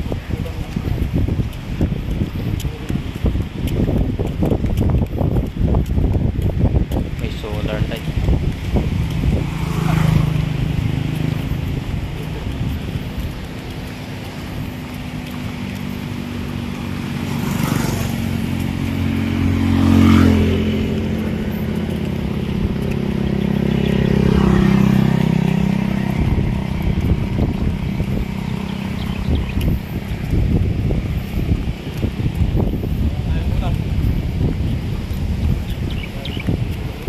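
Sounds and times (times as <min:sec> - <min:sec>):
motorcycle engine passing by: 0:06.6 - 0:37.0.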